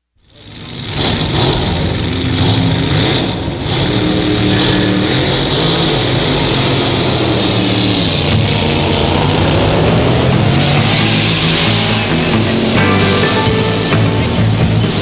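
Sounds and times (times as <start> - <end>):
car engine running: 0.2 - 15.0.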